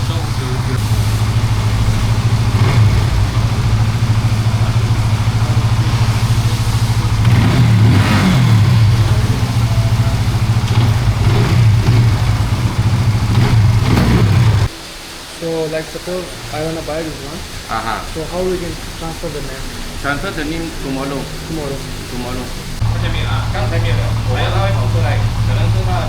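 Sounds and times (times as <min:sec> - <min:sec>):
motorcycle engine idling: 0:00.0 - 0:14.8, 0:19.7 - 0:26.0.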